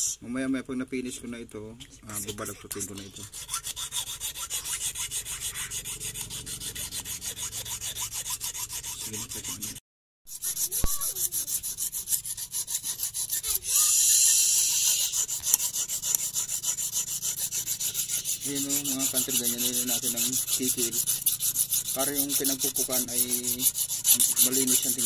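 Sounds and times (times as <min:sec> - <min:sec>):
file rasping on steel: 0:02.2 - 0:25.0.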